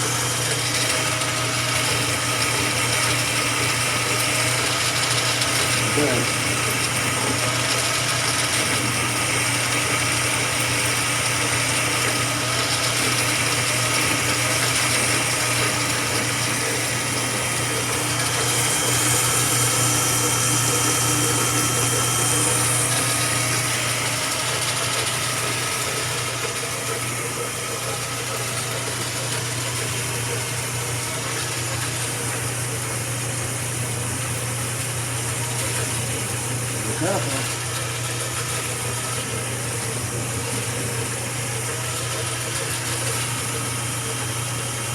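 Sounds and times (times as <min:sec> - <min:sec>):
metal lathe motor hum: 0:00.0 - 0:44.9.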